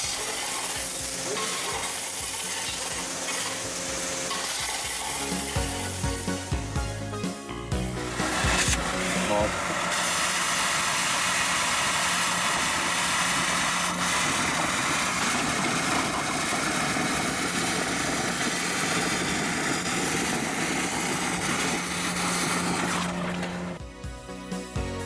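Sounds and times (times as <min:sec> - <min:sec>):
water vacuum cleaner running: 0:00.0 - 0:06.6, 0:08.0 - 0:23.8.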